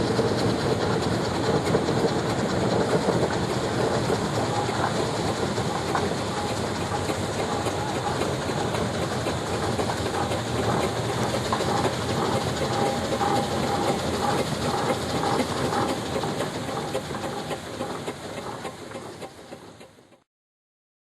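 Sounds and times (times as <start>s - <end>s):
steam traction engine clattering: 0.0s - 20.2s.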